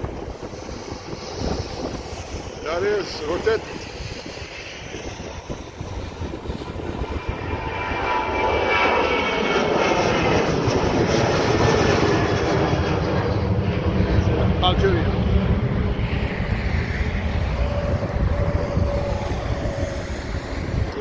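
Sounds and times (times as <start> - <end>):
jet engines roaring at takeoff: 0.0 - 21.0
whining engine fans: 0.0 - 21.0.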